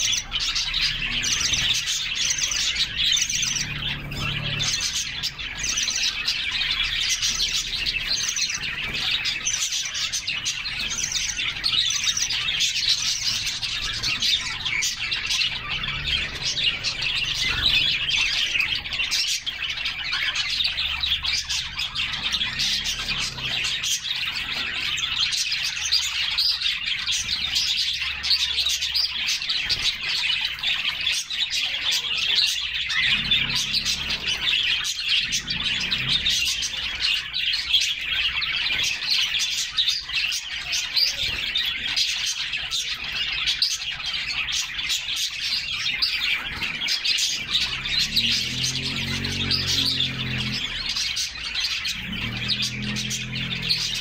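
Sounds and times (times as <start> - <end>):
canaries chirping and singing: 0.0 - 54.0.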